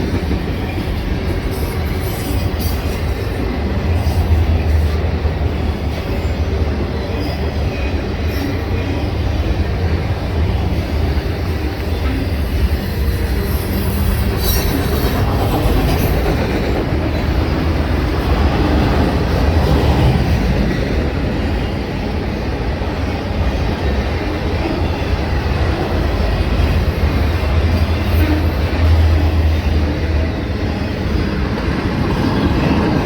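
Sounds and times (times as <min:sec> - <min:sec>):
railroad cars rumbling past: 0:00.0 - 0:33.0.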